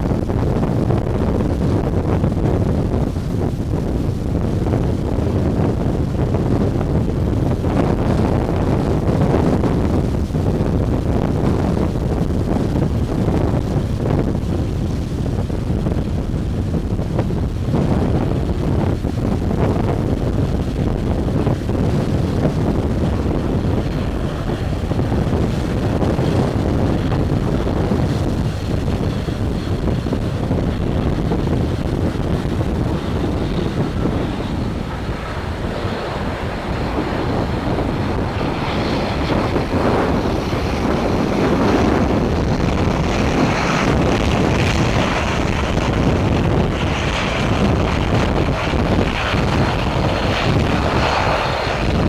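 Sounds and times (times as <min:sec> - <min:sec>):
gusting wind buffeting microphone: 0:00.0 - 0:52.0.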